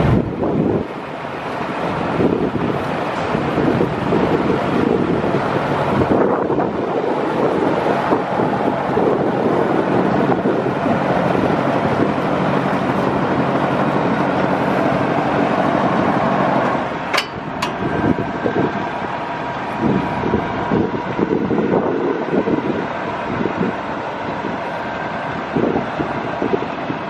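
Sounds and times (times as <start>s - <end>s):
diesel engine running: 0.0s - 27.0s
thin steady whine: 0.0s - 27.0s
wind buffeting microphone: 0.0s - 27.0s.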